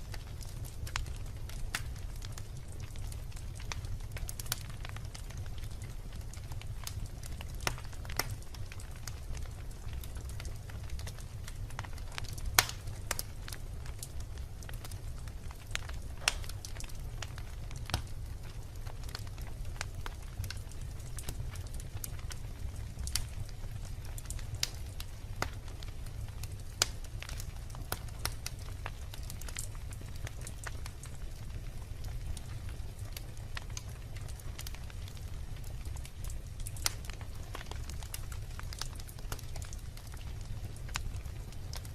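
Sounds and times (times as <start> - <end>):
fire crackling and popping: 0.0 - 41.9
fire rumbling: 0.0 - 41.9.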